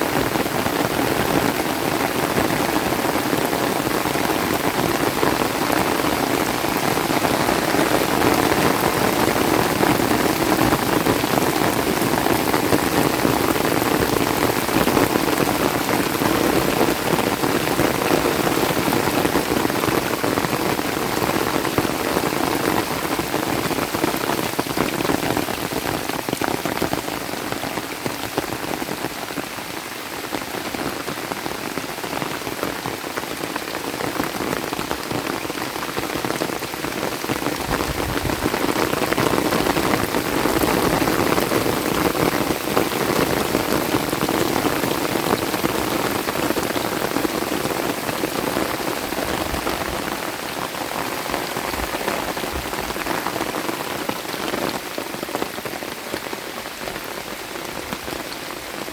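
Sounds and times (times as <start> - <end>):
rain on vegetation: 0.0 - 58.9.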